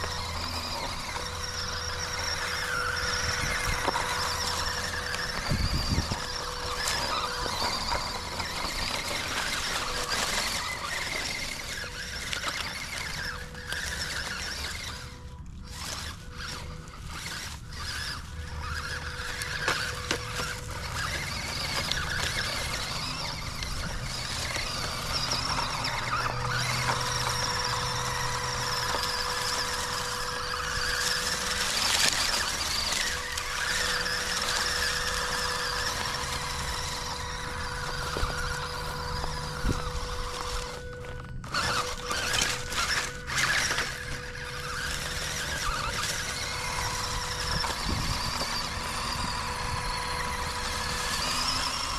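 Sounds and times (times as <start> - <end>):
toy truck motor whining: 0.0 - 51.9
tyres scraping on dirt: 0.0 - 51.9.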